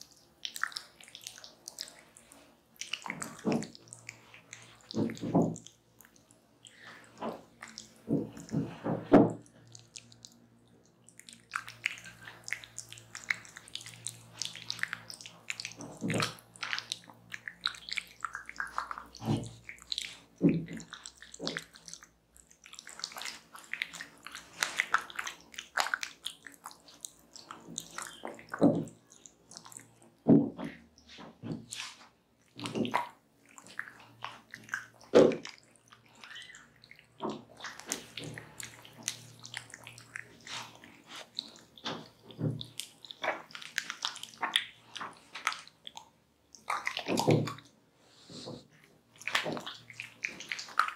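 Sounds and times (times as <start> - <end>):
wet squishing and crackling: 0.0 - 50.9.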